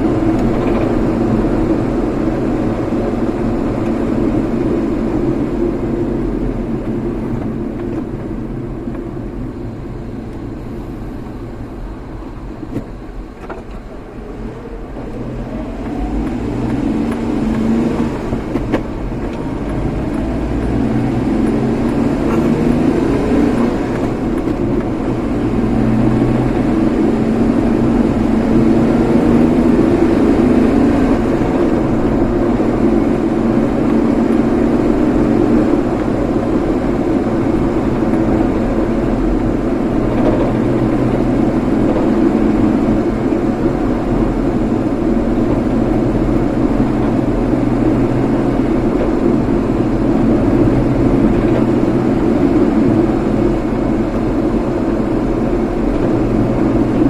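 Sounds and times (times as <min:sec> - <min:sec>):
road noise: 0:00.0 - 0:57.0
vehicle engine: 0:00.0 - 0:57.0.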